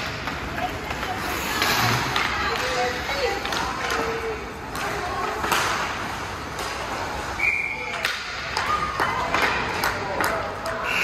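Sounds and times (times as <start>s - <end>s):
clacks of sticks and puck: 0.0s - 11.0s
rink hubbub: 0.0s - 11.0s.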